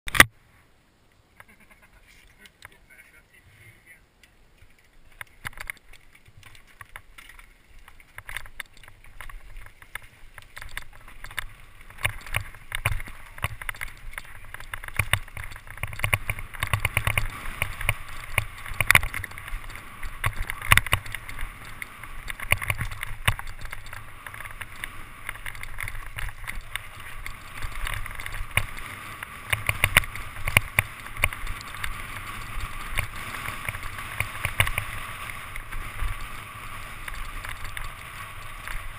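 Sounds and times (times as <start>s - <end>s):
bike rattling over rough trail: 4.3s - 38.9s.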